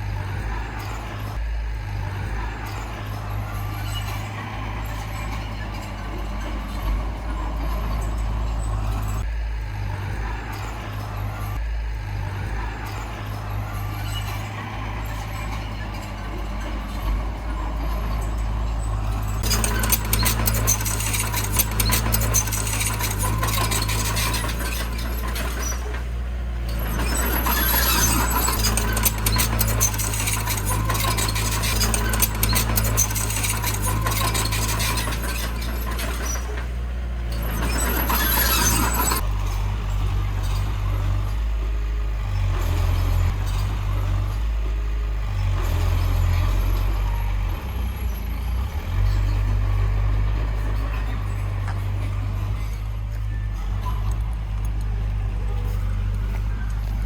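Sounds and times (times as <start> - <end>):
diesel engine running: 0.0 - 57.0
rattling scraping clatter: 0.0 - 57.0.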